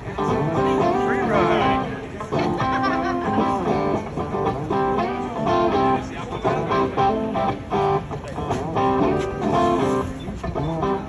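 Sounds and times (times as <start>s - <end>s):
amplified electric guitar chords: 0.0s - 11.0s.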